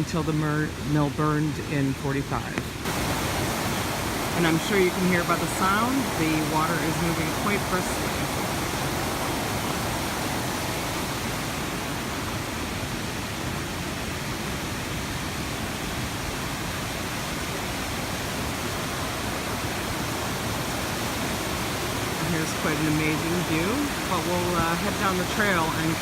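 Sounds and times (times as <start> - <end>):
river water rushing at waterfall: 0.0 - 26.0.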